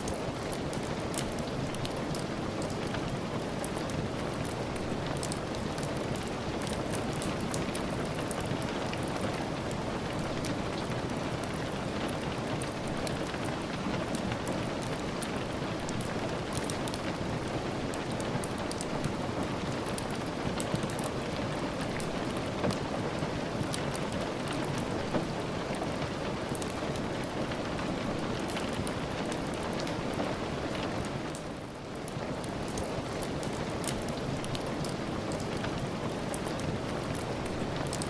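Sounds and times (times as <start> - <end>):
steady rain falling: 0.0 - 38.0
wood fire crackling: 0.0 - 38.0.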